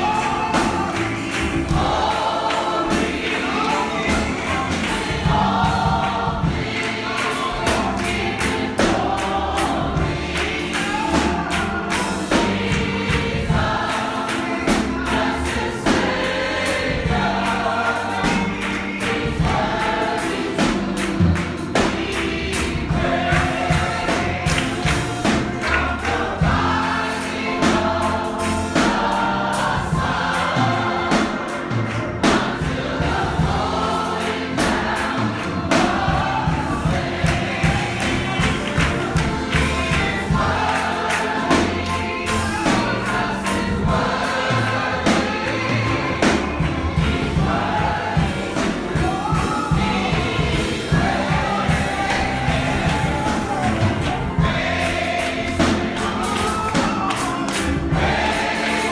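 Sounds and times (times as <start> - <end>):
congregation and choir singing: 0.0 - 58.9
drums or handclaps beat: 0.0 - 58.9.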